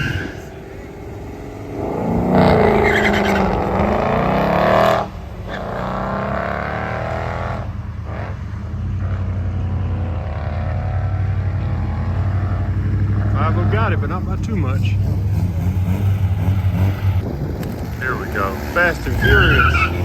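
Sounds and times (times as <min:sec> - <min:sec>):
drag racing car engine accelerating: 0:00.0 - 0:20.0.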